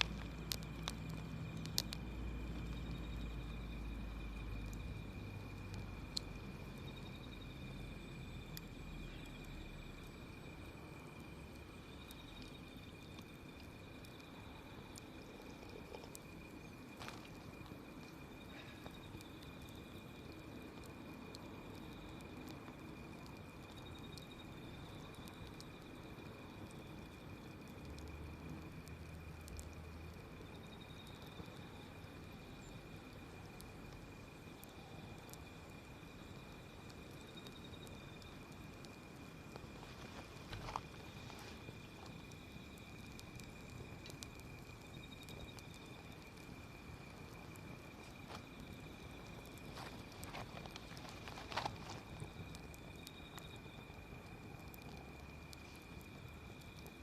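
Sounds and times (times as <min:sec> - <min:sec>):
campfire crackling: 0:00.0 - 0:57.0
crickets trilling: 0:00.0 - 0:57.0
soft steady hiss: 0:00.0 - 0:57.0.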